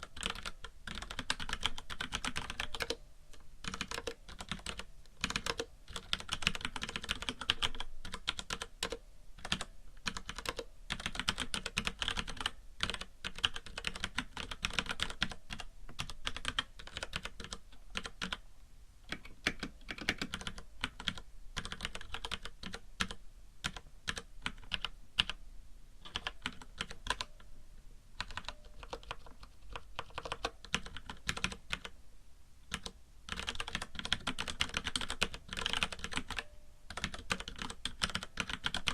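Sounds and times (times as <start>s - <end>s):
mechanical keyboard typing: 0.0s - 3.0s, 3.6s - 18.4s, 19.1s - 25.4s, 26.0s - 27.4s, 28.2s - 31.9s, 32.7s - 38.9s
faint hiss: 0.0s - 38.9s.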